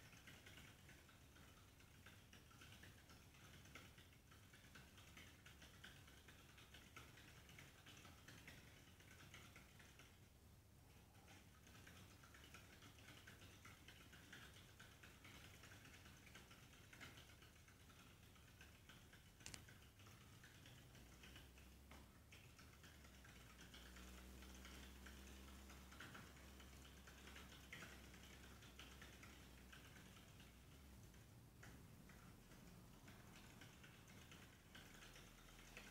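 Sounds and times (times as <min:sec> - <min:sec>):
hamster wheel clicking: 0:00.0 - 0:35.9.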